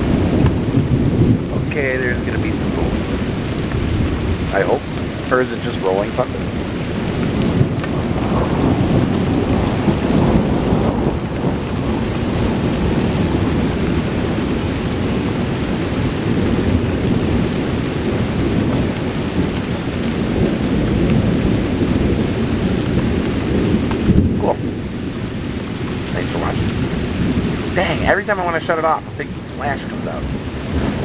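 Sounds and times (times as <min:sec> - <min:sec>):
rolling thunder: 0:00.0 - 0:31.0
steady rain: 0:00.0 - 0:31.0.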